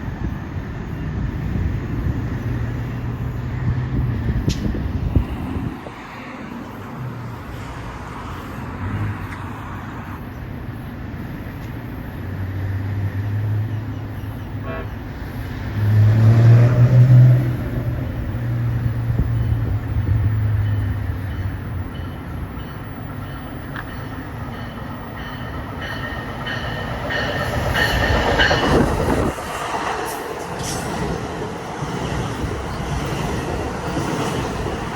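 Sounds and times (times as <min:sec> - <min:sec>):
train low drone: 0:00.0 - 0:34.9.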